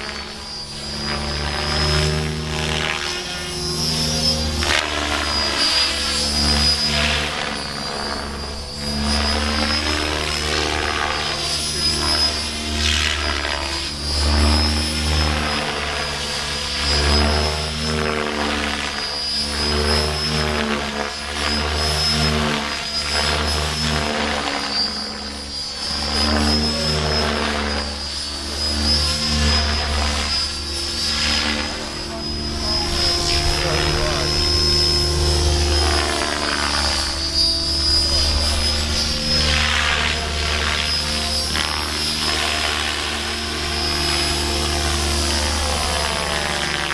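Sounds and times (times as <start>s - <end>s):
model helicopter whine and rotor chop: 0.0s - 46.9s.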